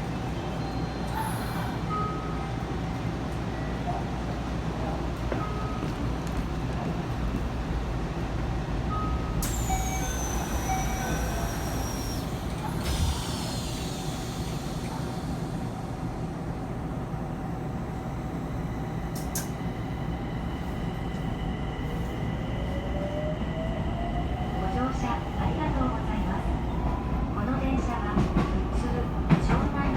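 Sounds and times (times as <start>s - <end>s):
train low rumble: 0.0s - 29.9s.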